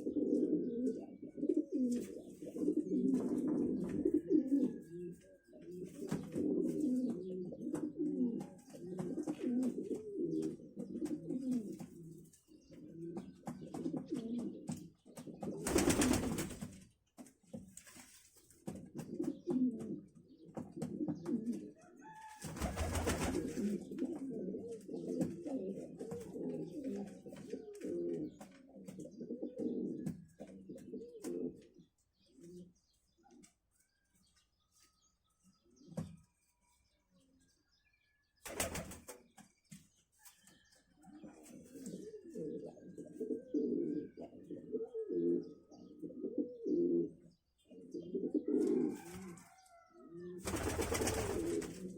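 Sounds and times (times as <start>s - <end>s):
pigeons cooing: 0.0s - 16.6s, 18.9s - 33.5s, 41.0s - 51.9s.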